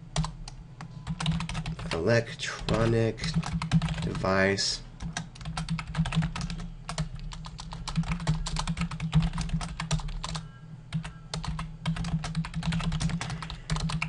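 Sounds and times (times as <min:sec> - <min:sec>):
computer keyboard typing: 0:00.2 - 0:00.4, 0:01.0 - 0:02.0, 0:02.6 - 0:04.4, 0:05.0 - 0:14.0.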